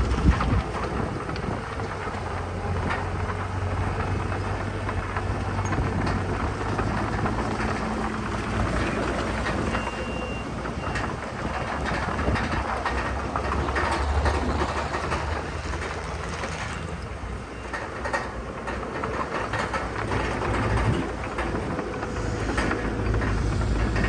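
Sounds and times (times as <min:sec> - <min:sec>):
heavy machinery diesel engine: 0:00.0 - 0:24.0
metal clanks and rattles: 0:00.0 - 0:24.0.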